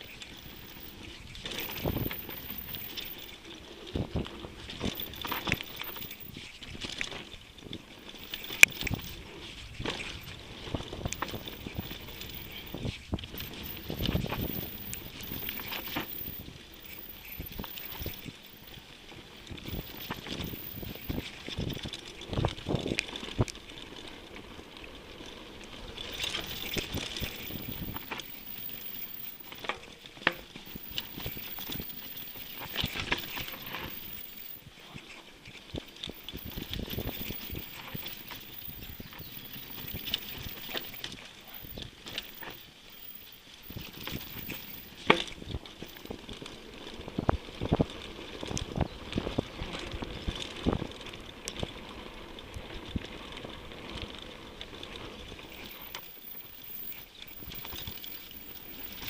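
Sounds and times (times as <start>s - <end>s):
bike rattling over rough ground: 0.0s - 59.0s
bike tyres on dirt trail: 0.0s - 59.0s.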